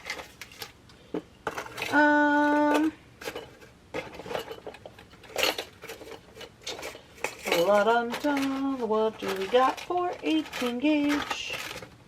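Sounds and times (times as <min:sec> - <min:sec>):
metal items clinking: 0:01.4 - 0:12.0.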